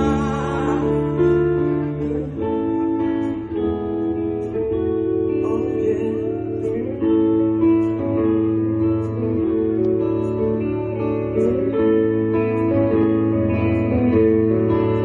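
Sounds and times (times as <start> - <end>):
guitar plucking and strumming chords: 0.0 - 15.0.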